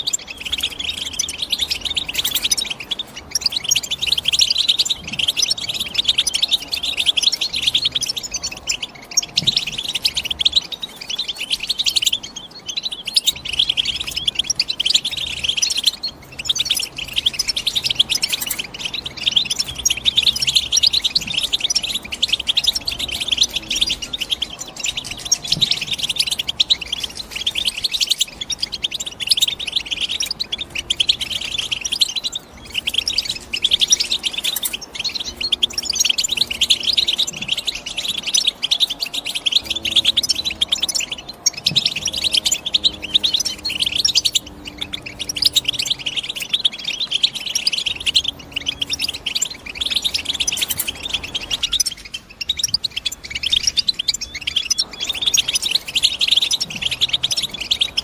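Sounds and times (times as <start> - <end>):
finch twittering song: 0.0 - 58.0.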